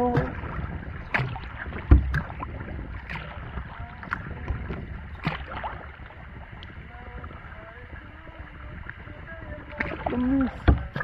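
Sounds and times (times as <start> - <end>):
low steady rumble: 0.0 - 11.0
paddle splashing in water: 0.0 - 11.0.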